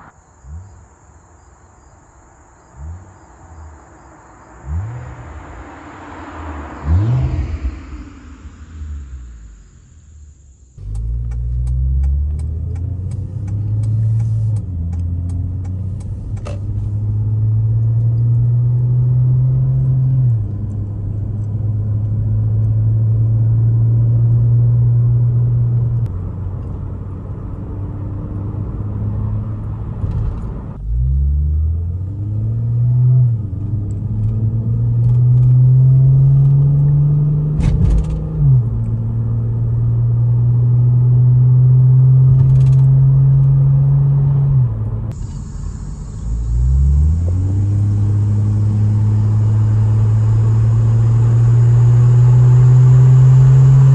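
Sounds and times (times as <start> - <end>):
car exhaust accelerating: 2.6 - 53.9.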